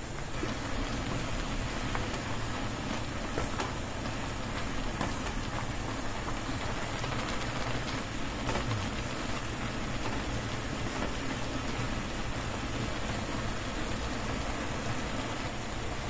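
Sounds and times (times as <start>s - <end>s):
noodles sizzling in a wok: 0.0s - 16.0s.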